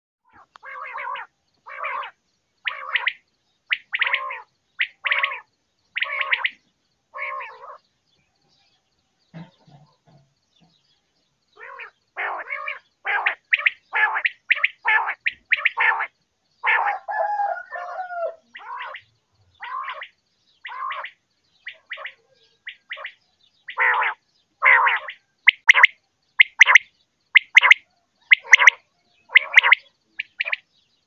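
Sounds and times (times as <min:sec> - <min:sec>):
quail calling: 0:00.3 - 0:07.8, 0:11.6 - 0:30.6.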